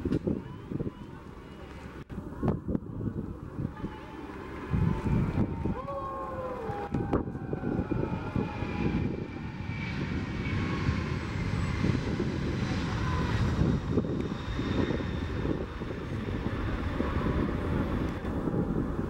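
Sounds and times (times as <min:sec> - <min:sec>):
jet engines deep rumble: 0:00.0 - 0:19.0
faint high engine whine: 0:00.4 - 0:19.0.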